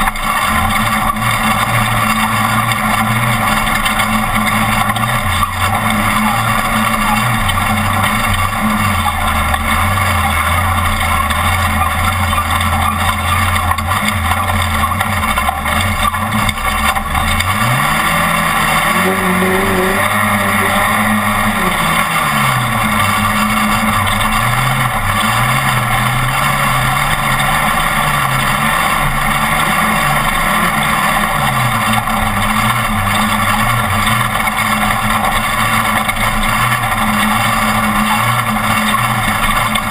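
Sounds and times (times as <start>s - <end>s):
truck engine revving: 0.0s - 39.9s
wind and road noise: 0.0s - 39.9s.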